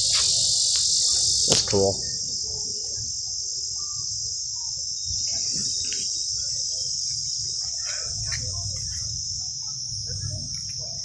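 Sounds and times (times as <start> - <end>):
faint background sounds: 0.0 - 11.0
insects buzzing: 0.0 - 11.0.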